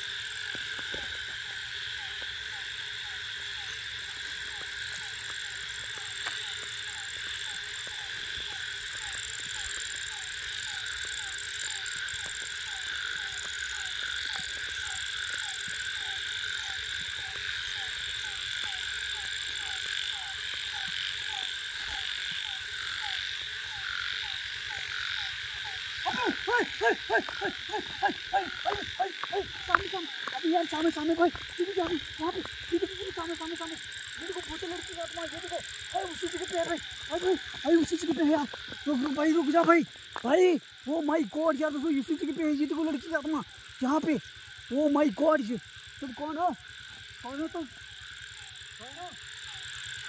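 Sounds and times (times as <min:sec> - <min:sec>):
frog calls: 0:00.0 - 0:50.0
insects trilling: 0:00.0 - 0:50.0
loud frog croaking: 0:00.0 - 0:50.0.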